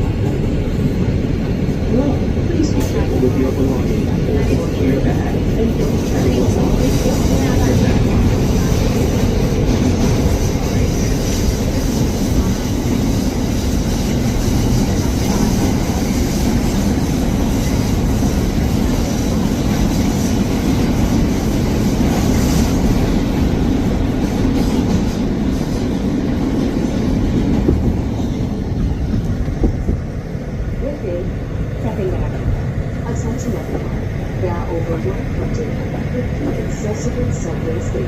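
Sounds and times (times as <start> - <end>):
subway train rumbling on rails: 0.0 - 38.0.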